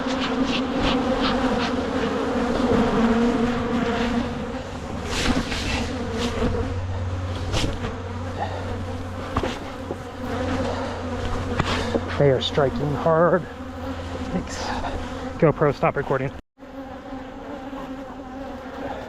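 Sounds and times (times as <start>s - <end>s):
single bees zipping past: 0.0s - 15.4s, 16.6s - 19.0s
swarm of bees buzzing: 0.0s - 19.0s.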